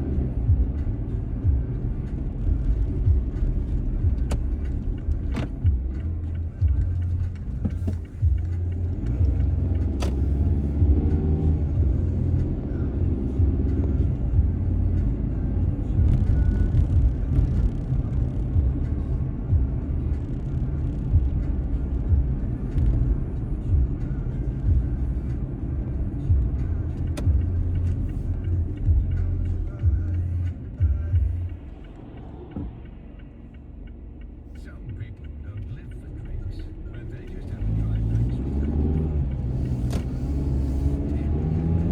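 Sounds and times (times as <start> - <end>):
car road and engine rumble: 0.0 - 41.9.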